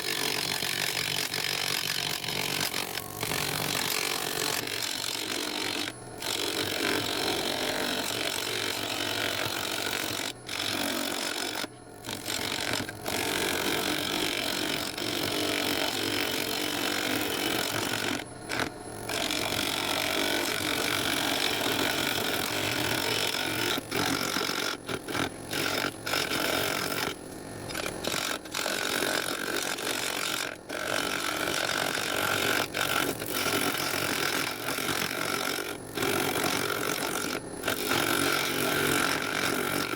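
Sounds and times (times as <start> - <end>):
lathe gouge scraping wood: 0.0 - 27.1, 27.7 - 39.9.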